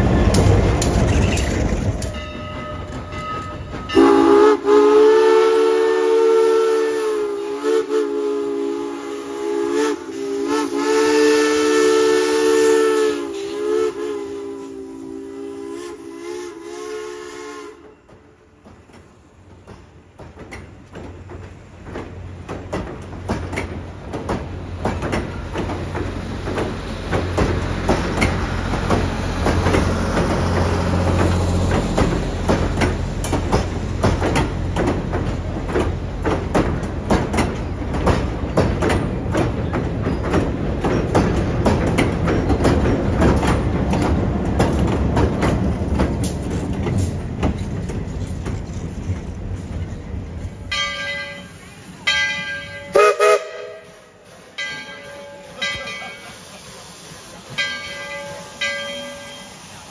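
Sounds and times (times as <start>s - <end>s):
train wheels clattering over rails: 0.0s - 6.2s, 17.8s - 59.9s.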